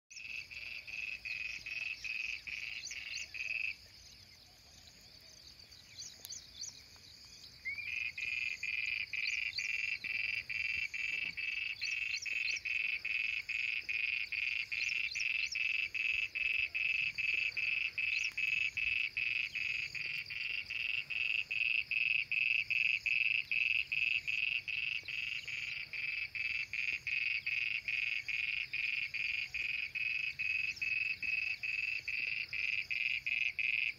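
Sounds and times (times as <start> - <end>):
frogs calling in chorus: 0.2 - 4.6, 7.6 - 33.9.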